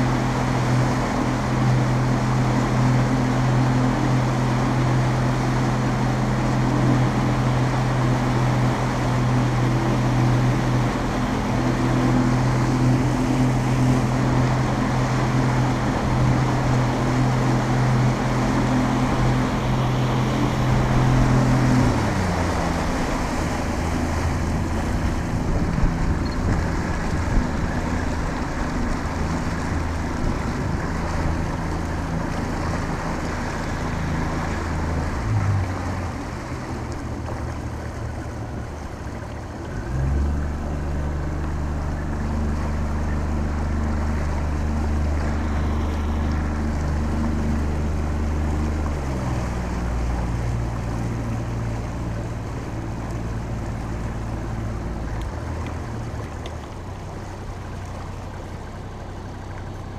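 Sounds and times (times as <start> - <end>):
outboard motor running: 0.0 - 59.9
water rushing past: 0.0 - 59.9.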